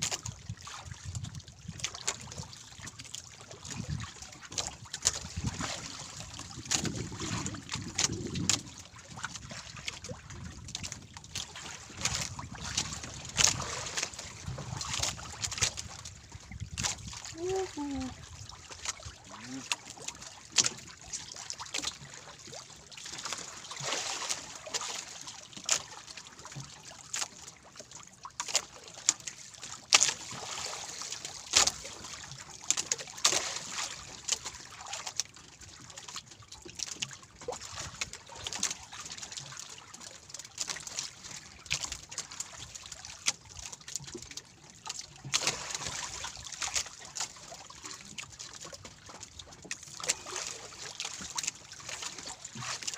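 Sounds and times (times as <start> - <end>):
water trickling and splashing: 0.0 - 52.9.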